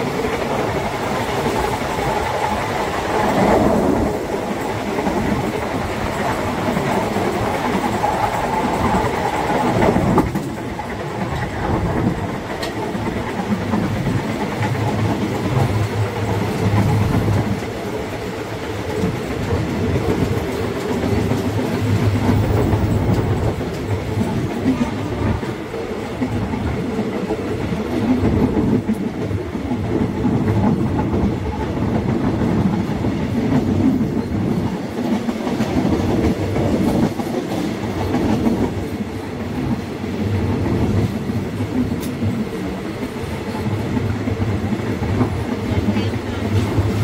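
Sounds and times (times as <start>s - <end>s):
train wheels on rails: 0.0s - 47.0s.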